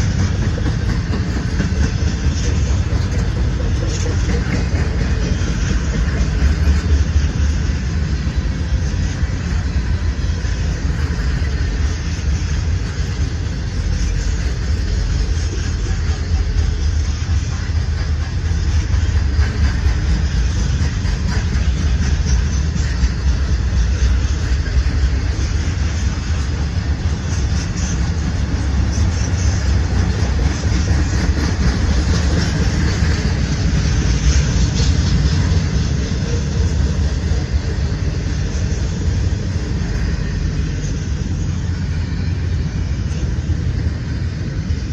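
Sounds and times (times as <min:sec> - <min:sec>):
freight train rumbling past: 0:00.0 - 0:44.9
train wheel noise: 0:00.0 - 0:44.9.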